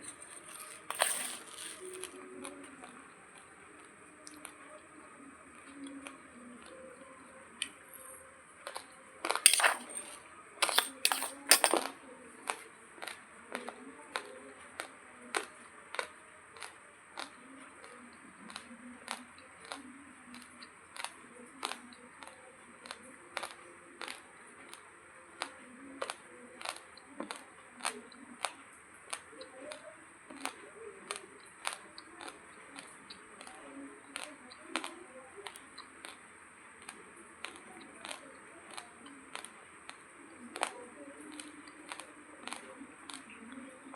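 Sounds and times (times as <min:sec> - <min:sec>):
teeth crunching uncooked rice: 0:00.0 - 0:04.6, 0:07.6 - 0:24.8, 0:25.4 - 0:43.6.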